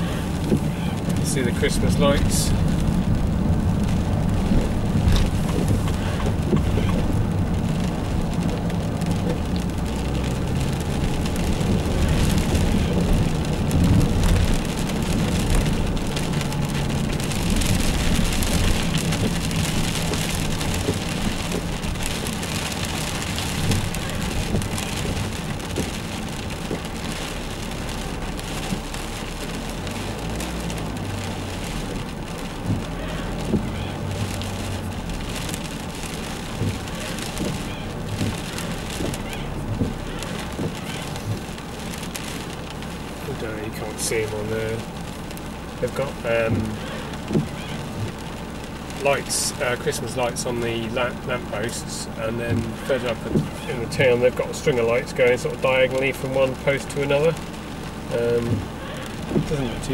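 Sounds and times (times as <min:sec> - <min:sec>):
road noise hiss: 0:00.0 - 0:59.9
van engine drone: 0:00.0 - 0:59.9.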